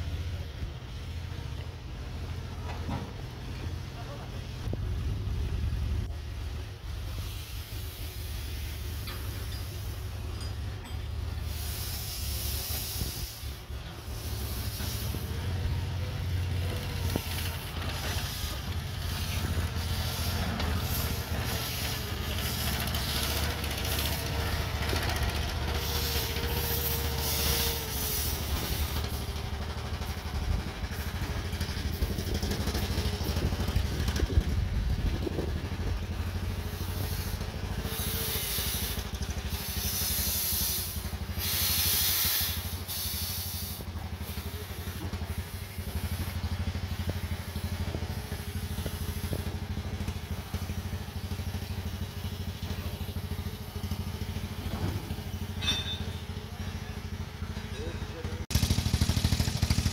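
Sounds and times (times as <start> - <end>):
steam locomotive rumbling: 0.0 - 59.9
steam hissing: 5.4 - 57.5.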